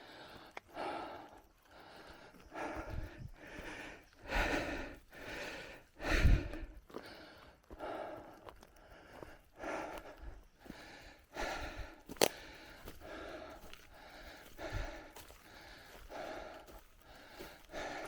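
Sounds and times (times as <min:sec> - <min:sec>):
person breathing hard: 0:00.0 - 0:18.0.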